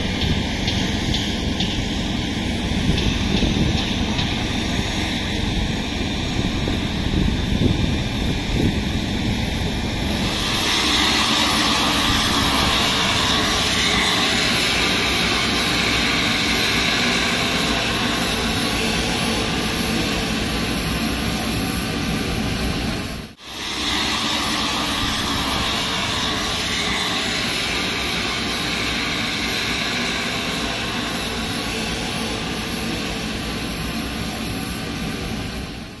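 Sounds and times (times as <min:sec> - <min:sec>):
jet aircraft whine and rush: 0:00.0 - 0:36.0.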